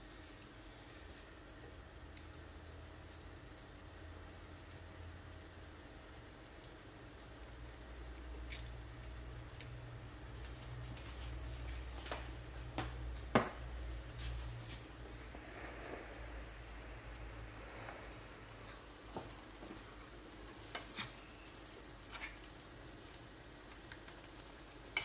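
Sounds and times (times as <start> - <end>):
crackles and pops: 0.0 - 25.0
food sizzling in a pan: 0.0 - 25.0.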